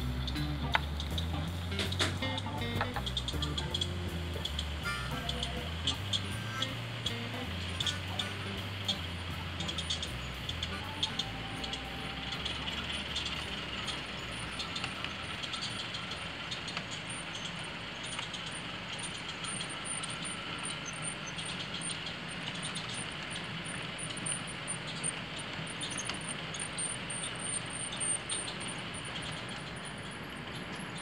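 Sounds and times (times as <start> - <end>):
wheels clicking over rail joints: 0.0 - 31.0
model train coaches rattling: 1.1 - 31.0.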